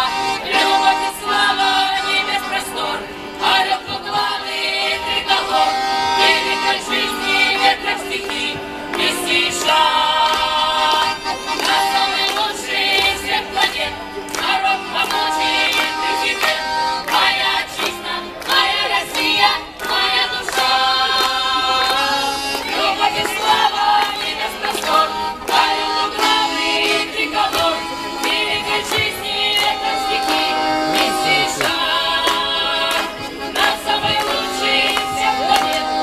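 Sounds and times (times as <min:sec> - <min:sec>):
folk ensemble singing: 0:00.0 - 0:36.0.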